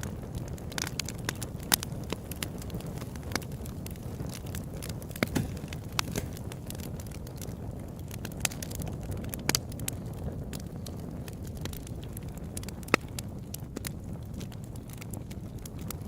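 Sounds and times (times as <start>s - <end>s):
burning wood popping and crackling: 0.0s - 16.0s
campfire low rumble: 0.0s - 16.0s.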